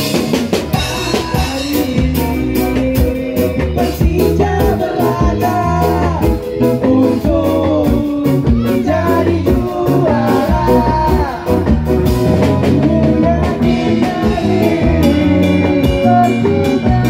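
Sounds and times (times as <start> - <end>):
live ska band playing: 0.0 - 17.0.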